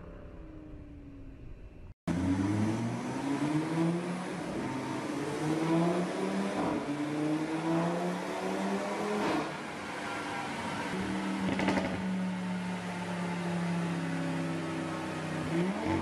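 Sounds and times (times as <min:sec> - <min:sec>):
car engine revving on dyno: 0:02.1 - 0:16.0.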